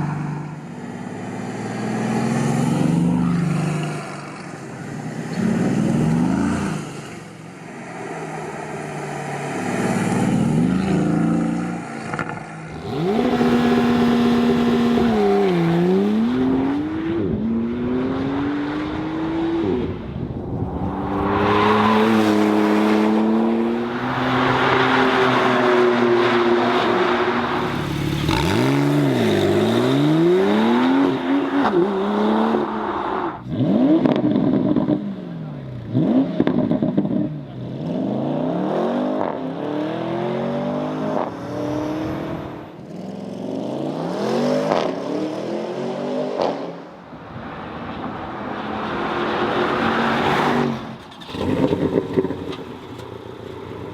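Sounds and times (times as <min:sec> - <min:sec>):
sports car engines revving: 0:00.0 - 0:46.9.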